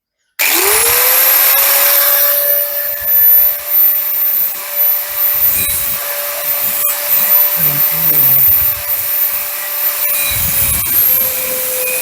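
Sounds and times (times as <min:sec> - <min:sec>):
angle grinder cutting metal: 0:00.4 - 0:12.0.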